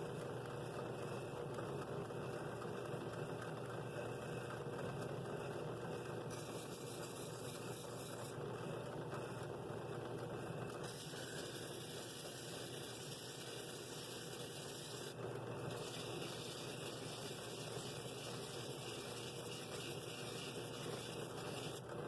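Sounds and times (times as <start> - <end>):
drill press motor humming: 0.0 - 22.0.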